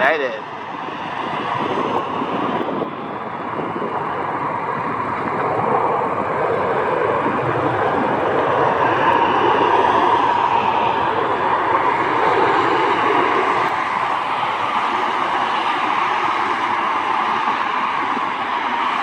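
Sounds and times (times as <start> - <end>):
jet airliner engines rushing: 0.0 - 19.0.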